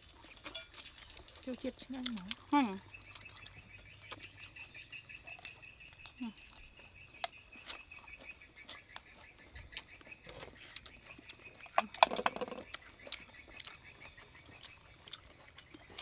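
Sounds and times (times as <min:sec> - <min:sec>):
chewing and lip smacks: 0:00.0 - 0:16.0.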